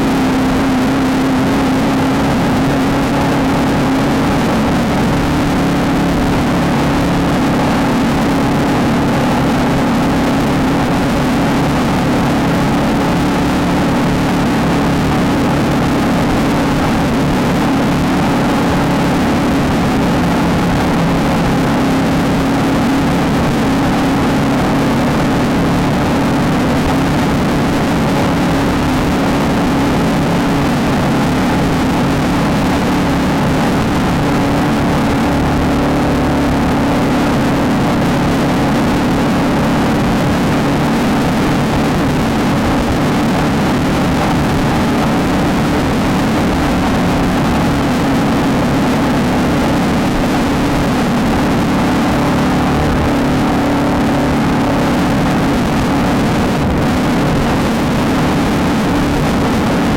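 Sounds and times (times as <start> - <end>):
race car engine running hard: 0.0 - 59.9
rushing vehicle noise: 0.0 - 59.9.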